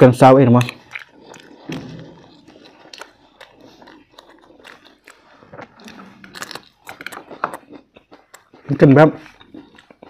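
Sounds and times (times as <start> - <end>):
people chewing and crunching food: 0.0 - 10.0.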